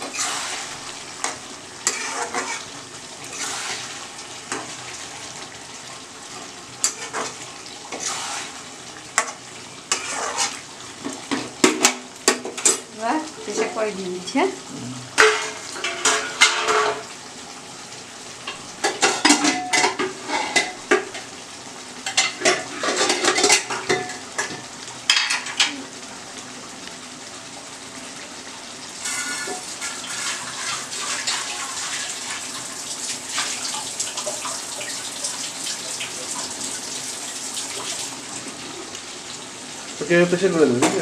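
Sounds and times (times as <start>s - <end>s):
water tap running: 0.0s - 41.0s.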